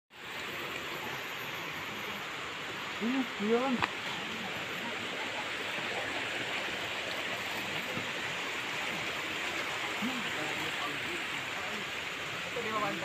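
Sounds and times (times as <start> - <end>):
flowing stream water: 0.1 - 13.0.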